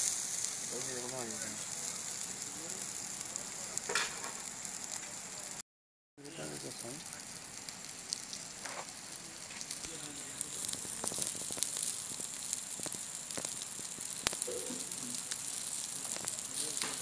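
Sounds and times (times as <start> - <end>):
crackling pops: 0.0 - 5.6, 6.2 - 17.0
fish sizzling on charcoal grill: 0.0 - 5.6, 6.2 - 17.0.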